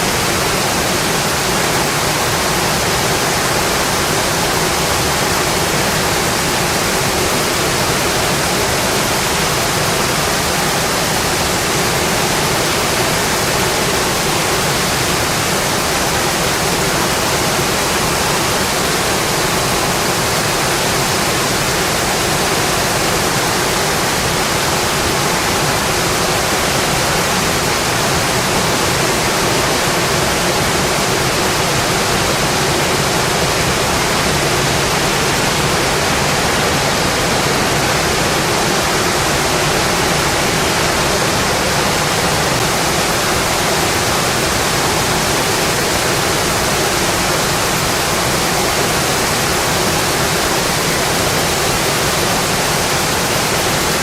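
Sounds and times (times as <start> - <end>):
dense rainfall: 0.0 - 54.0.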